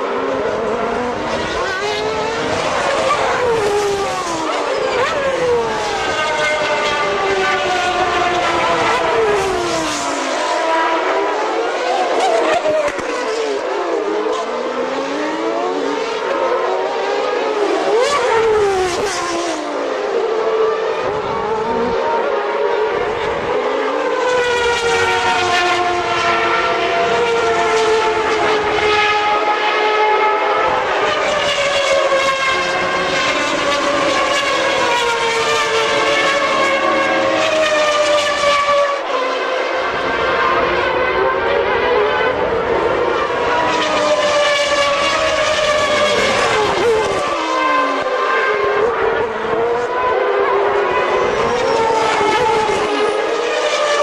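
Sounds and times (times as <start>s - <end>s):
race cars passing at high revs: 0.0s - 54.0s.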